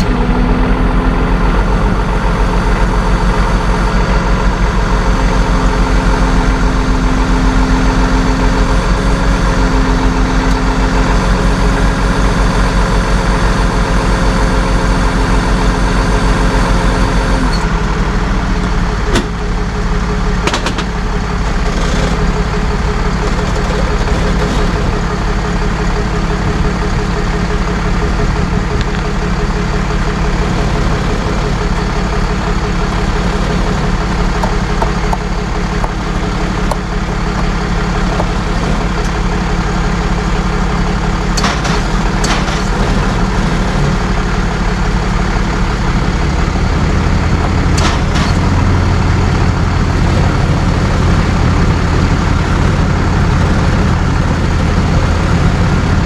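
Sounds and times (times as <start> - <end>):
truck engine running under load: 0.0 - 56.0.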